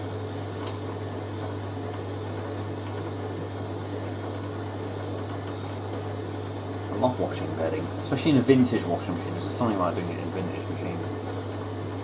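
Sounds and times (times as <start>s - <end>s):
washing machine spinning hum: 0.0s - 12.0s.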